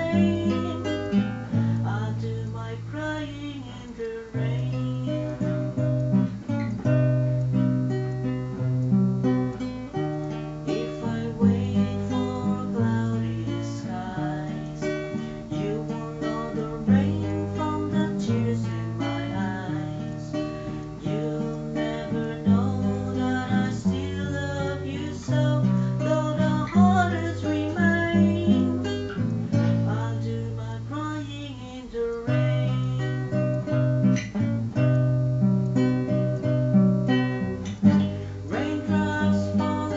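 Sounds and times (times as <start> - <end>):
acoustic guitar: 0.0 - 39.9.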